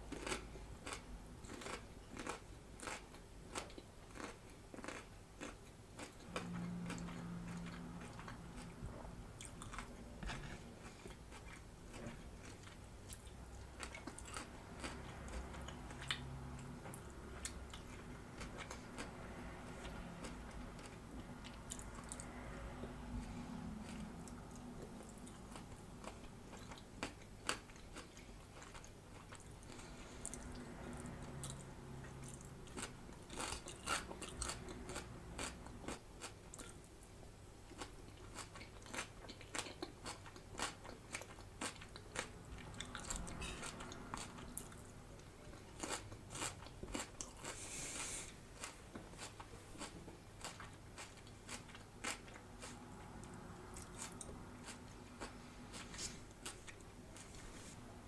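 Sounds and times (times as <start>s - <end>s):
chewing crisp vegetables: 0.0s - 57.8s.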